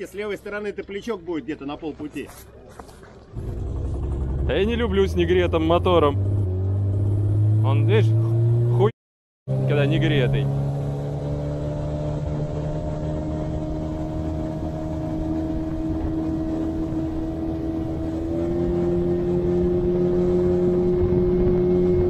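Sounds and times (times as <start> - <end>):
outboard motor running: 0.1 - 8.1, 9.5 - 22.0.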